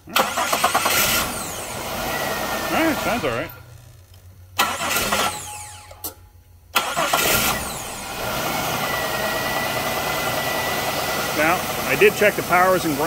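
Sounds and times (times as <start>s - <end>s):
car engine cranking and starting: 0.0s - 13.0s
car engine idling: 0.0s - 13.0s.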